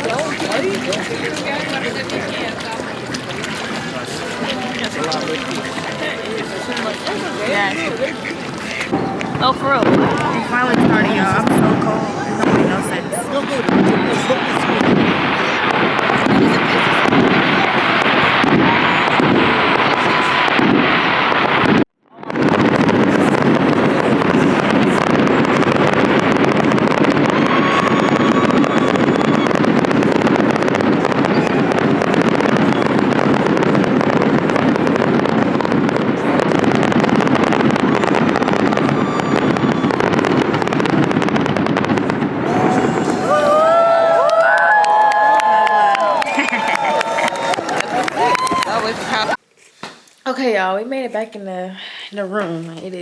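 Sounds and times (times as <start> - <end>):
fireworks crackling and popping: 0.0 - 51.3.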